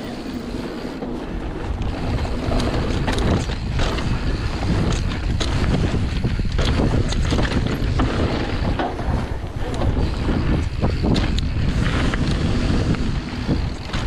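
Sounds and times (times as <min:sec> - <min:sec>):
bike clicks and rattles: 0:00.0 - 0:14.0
tyres rumbling on dirt trail: 0:00.0 - 0:14.0
wind buffeting microphone: 0:00.0 - 0:14.0.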